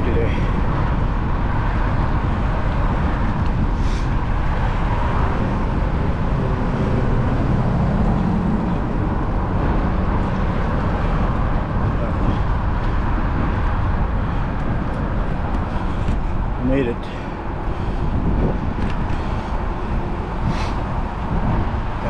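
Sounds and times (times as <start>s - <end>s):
passing vehicle hum: 0.0s - 22.0s
road noise: 0.0s - 22.0s
wind rumble: 0.0s - 22.0s.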